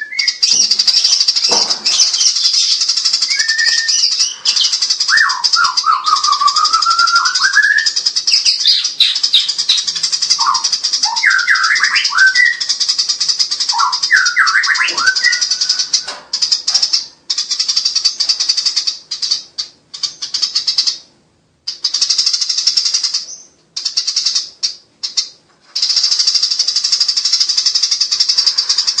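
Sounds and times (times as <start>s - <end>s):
sparrows harsh chatter: 0.0s - 29.0s.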